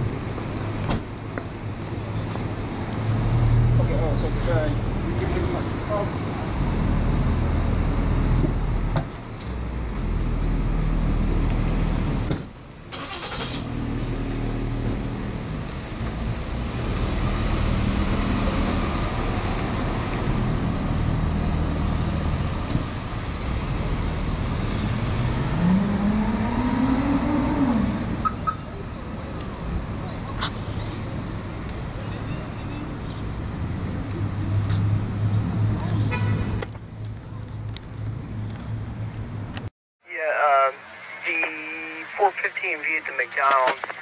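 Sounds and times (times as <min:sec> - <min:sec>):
car engine idling and accelerating: 0:00.0 - 0:39.7.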